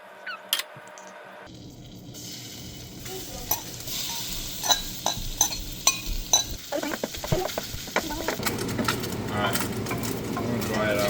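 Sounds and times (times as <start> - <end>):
fish frying in hot oil: 1.5 - 11.0.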